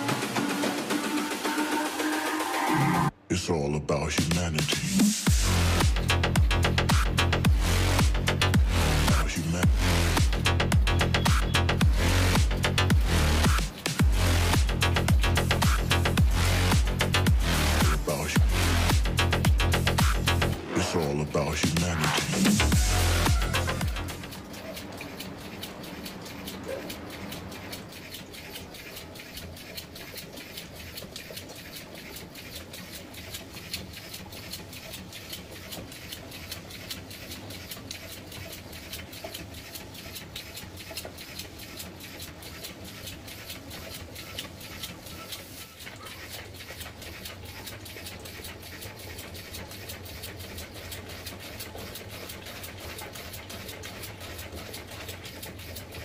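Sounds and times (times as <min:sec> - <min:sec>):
steam engine ticking: 0:00.0 - 0:56.0.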